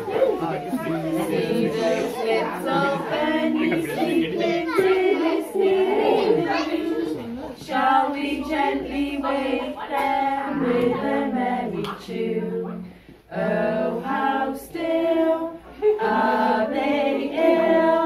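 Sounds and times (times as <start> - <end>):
women and children singing: 0.0 - 18.0.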